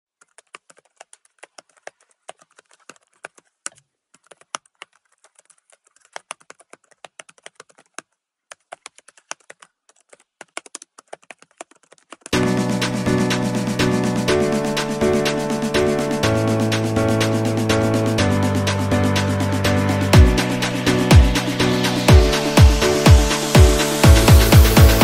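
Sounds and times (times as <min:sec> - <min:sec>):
keyboard typing: 0:00.2 - 0:25.0.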